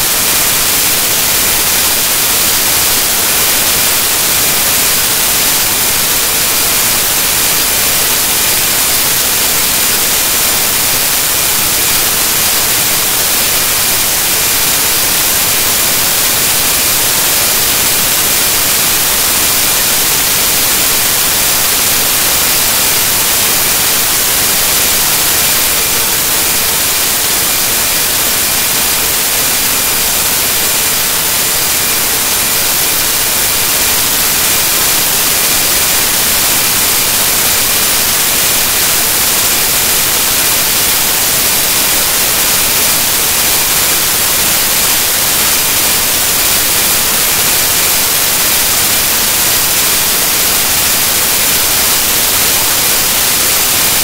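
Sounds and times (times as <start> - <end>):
static hiss: 0.0 - 54.0.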